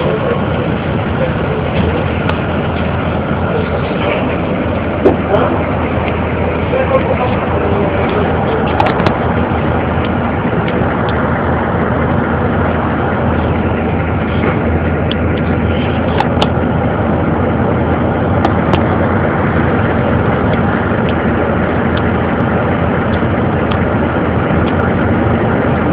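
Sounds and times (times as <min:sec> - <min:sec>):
bus engine and road noise: 0:00.0 - 0:25.9.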